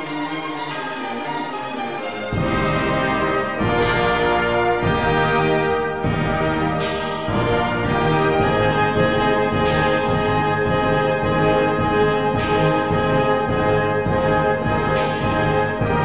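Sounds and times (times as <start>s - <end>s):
orchestral music led by brass: 0.0s - 16.0s.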